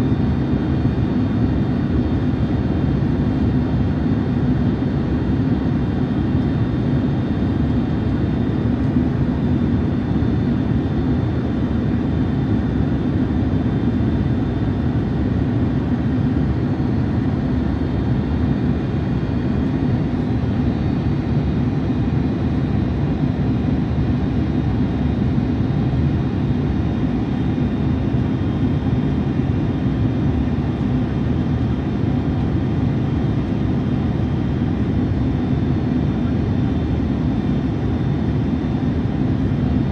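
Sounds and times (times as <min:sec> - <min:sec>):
jet airliner cabin noise: 0:00.1 - 0:39.9.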